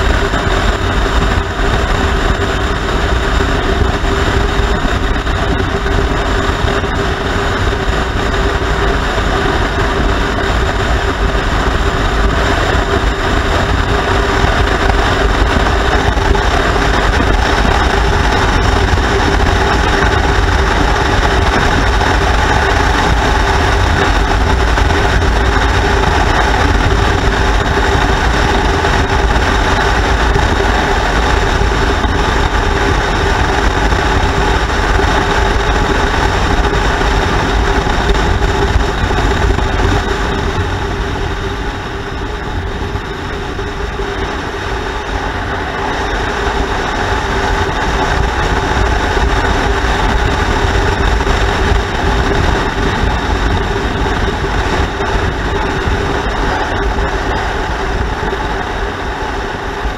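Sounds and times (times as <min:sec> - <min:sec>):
motorcycle engine drone: 0:00.0 - 0:59.9
road noise: 0:00.0 - 0:59.9
wind rush: 0:00.0 - 0:59.9.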